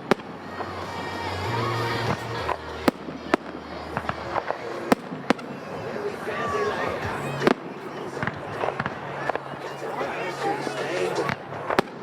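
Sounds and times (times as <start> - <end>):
steady music: 0.0 - 11.8
firework bangs: 0.0 - 12.0
firework cracks: 0.0 - 12.0.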